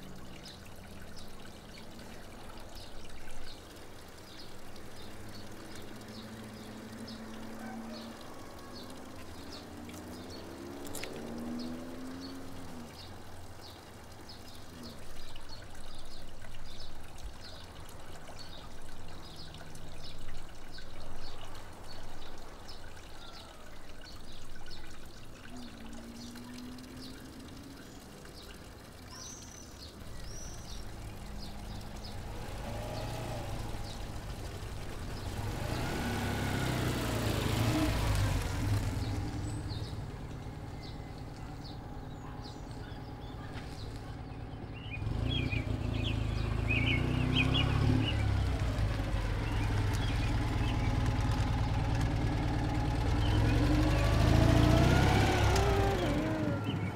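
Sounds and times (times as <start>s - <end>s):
stream water running: 0.0s - 56.9s.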